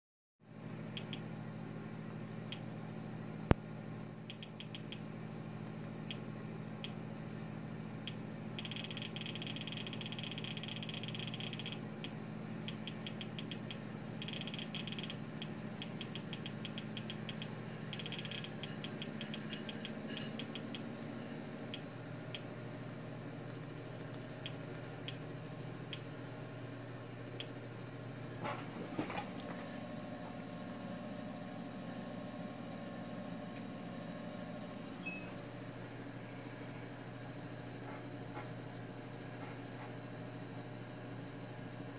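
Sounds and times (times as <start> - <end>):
steady low hum: 0.4 - 41.9.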